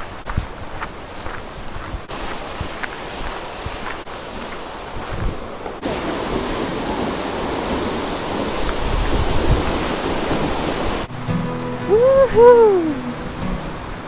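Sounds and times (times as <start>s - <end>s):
waterfall rushing: 2.1s - 14.0s.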